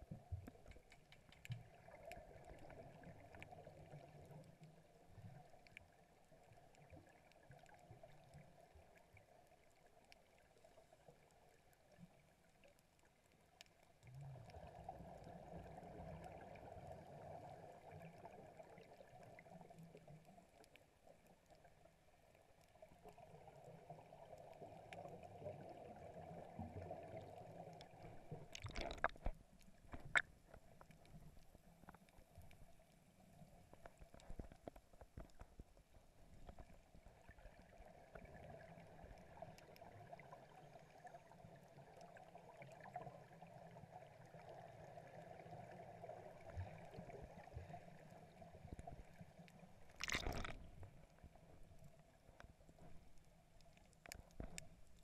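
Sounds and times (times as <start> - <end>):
underwater bubbles gurgling: 0.0 - 12.7, 13.4 - 55.0.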